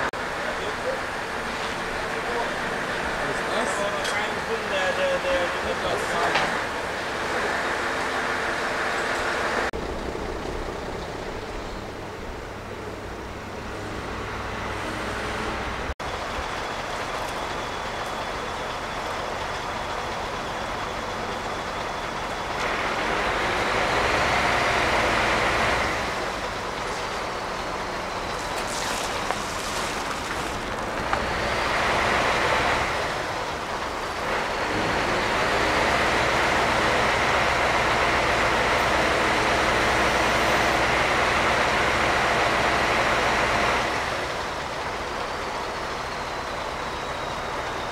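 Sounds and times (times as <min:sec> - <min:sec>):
heavy vehicle engines running: 0:00.0 - 0:47.9.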